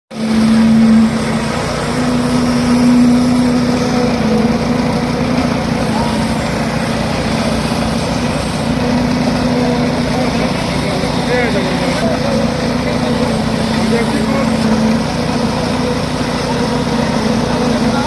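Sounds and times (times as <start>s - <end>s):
construction machinery engine droning: 0.1s - 18.0s.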